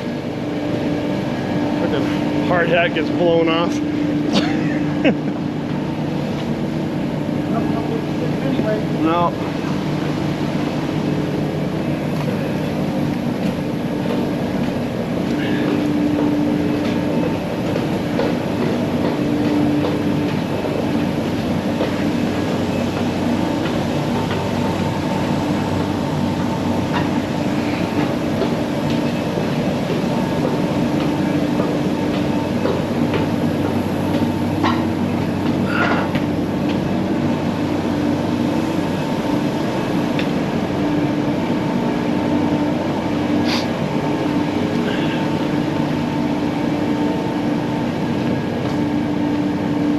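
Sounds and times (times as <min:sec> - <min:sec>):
machinery drone: 0:00.0 - 0:49.9.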